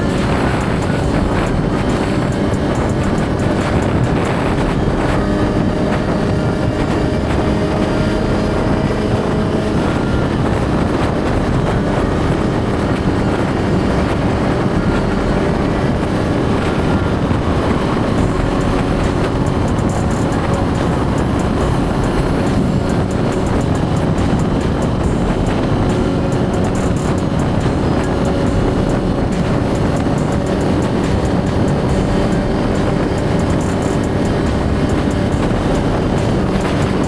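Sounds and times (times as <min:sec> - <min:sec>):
motorcycle engine running: 0:00.0 - 0:37.0
wind noise on microphone: 0:00.0 - 0:37.0.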